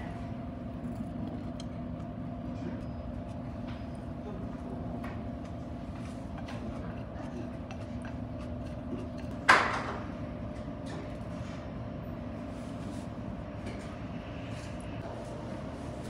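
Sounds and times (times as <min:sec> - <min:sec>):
dining room background hum: 0:00.0 - 0:16.0.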